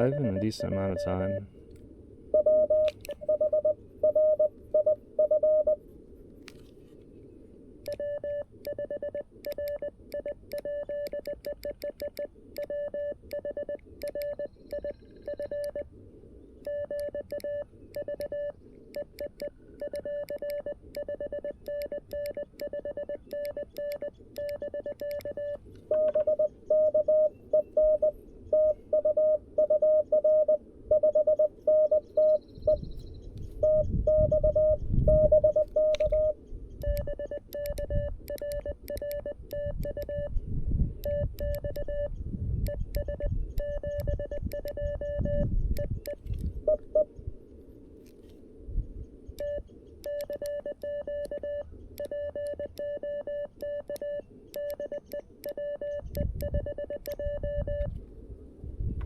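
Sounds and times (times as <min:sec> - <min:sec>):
faint fast morse code: 0:00.0 - 0:01.5, 0:02.4 - 0:05.8, 0:07.9 - 0:15.9, 0:16.6 - 0:32.8, 0:33.6 - 0:40.4, 0:41.0 - 0:47.1, 0:49.4 - 0:57.9
loud morse code sidetone: 0:00.0 - 0:01.5, 0:02.4 - 0:05.8, 0:07.9 - 0:15.8, 0:16.7 - 0:32.8, 0:33.6 - 0:40.3, 0:41.0 - 0:42.1, 0:42.7 - 0:47.1, 0:49.4 - 0:57.9.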